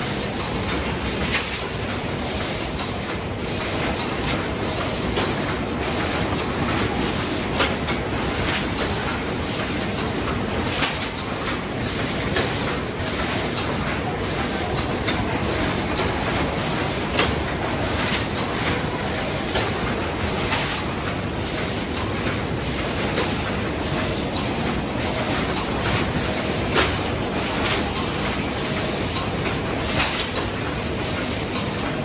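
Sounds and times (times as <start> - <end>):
sharp machine clacks: 0.0 - 32.0.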